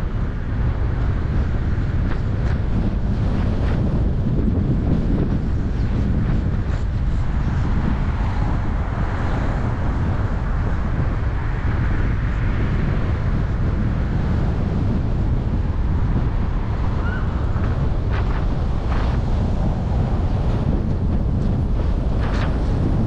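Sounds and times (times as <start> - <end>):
car road noise: 0.0 - 23.0
wind buffeting microphone: 0.0 - 23.0.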